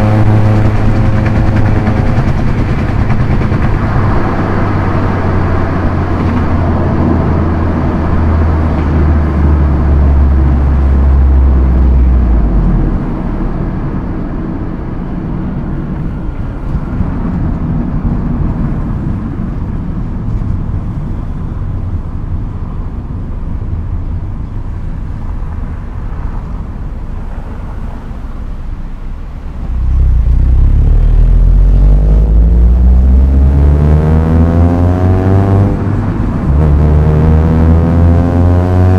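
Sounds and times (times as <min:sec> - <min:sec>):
car engine pulling hard: 0:00.0 - 0:38.9
road noise: 0:00.0 - 0:38.9.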